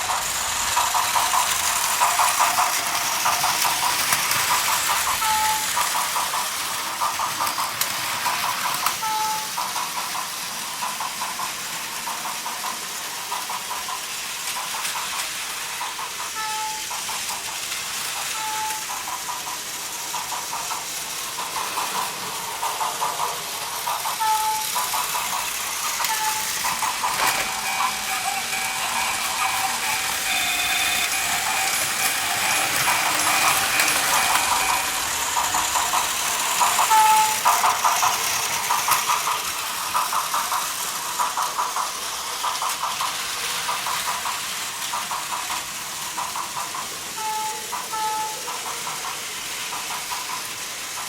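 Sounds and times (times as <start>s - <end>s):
toy train motor whir: 0.0s - 51.0s
wheels clicking over track: 0.0s - 51.0s.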